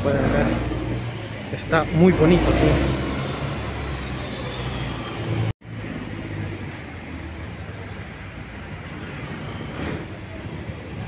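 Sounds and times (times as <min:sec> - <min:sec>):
traffic hum: 0:00.0 - 0:11.0
vehicle engine rumbling: 0:00.0 - 0:11.0.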